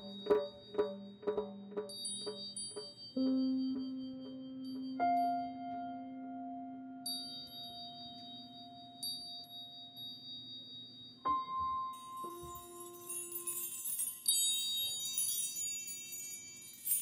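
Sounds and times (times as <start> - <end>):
ringing chime-like tones: 0.0 - 17.0.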